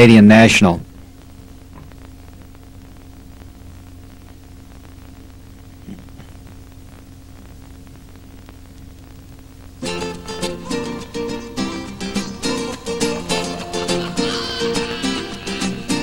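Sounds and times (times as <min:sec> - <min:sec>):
electrical hum with hiss: 0:00.0 - 0:16.0.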